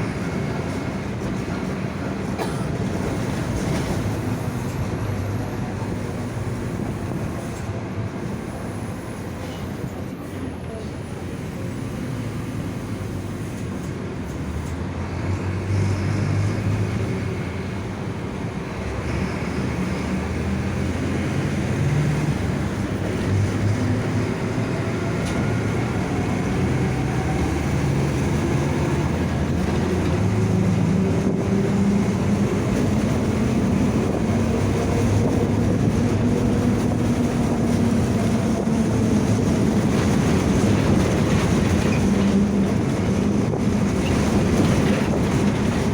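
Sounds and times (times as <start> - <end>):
bus diesel engine revving: 0.0 - 45.9.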